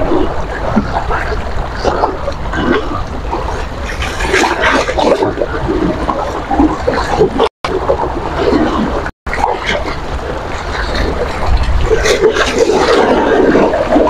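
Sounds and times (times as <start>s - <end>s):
sea waves splashing: 0.0s - 14.0s
wind rumbling on microphone: 0.0s - 14.0s.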